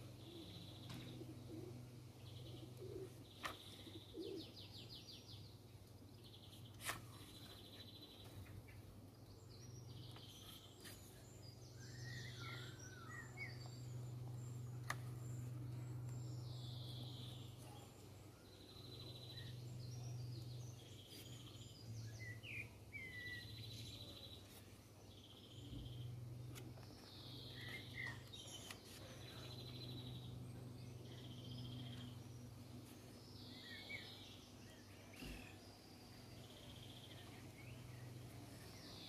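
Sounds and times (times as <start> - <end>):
low steady hum: 0.0 - 39.0
songbirds singing faintly: 0.0 - 39.0.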